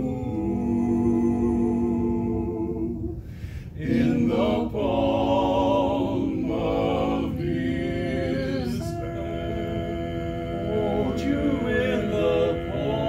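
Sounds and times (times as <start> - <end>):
male vocal quartet singing: 0.0 - 13.0.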